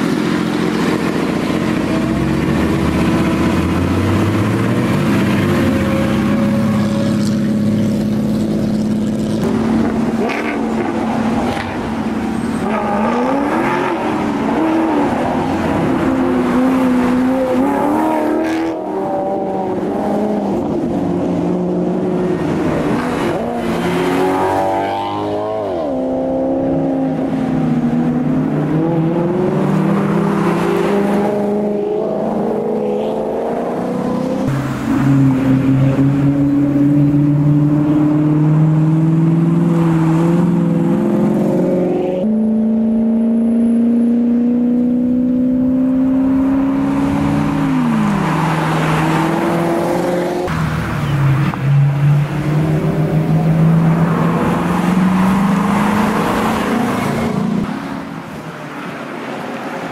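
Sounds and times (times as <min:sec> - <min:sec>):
car engines revving: 0:00.0 - 0:59.9
cars driving past: 0:00.0 - 0:59.9.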